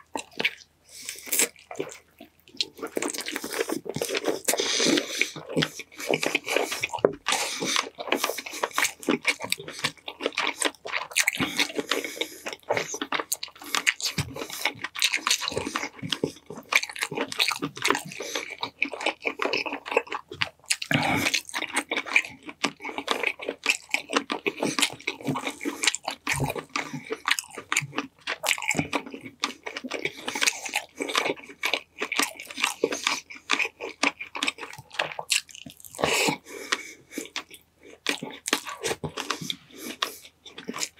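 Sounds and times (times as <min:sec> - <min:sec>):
wet smacking and crunching: 0:00.0 - 0:40.9.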